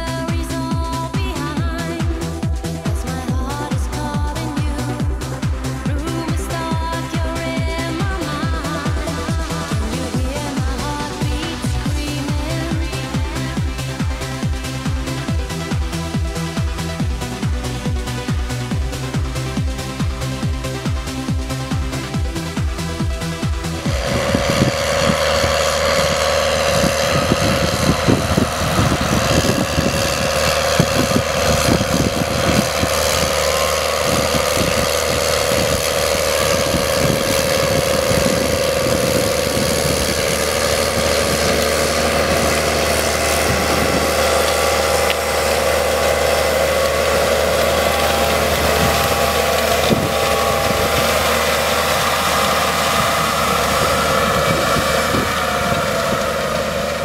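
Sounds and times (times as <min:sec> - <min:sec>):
steady whine: 0:00.0 - 0:57.0
tractor diesel engine running: 0:00.0 - 0:57.0.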